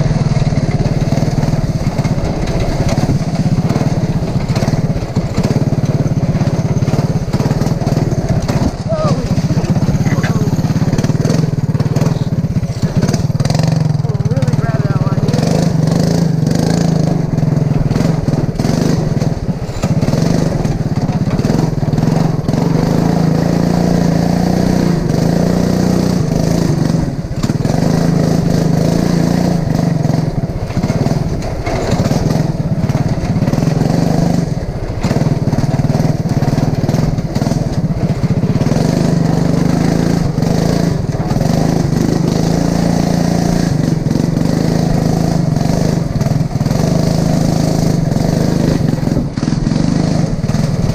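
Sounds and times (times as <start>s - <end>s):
lawn mower engine running hard: 0.0s - 50.9s.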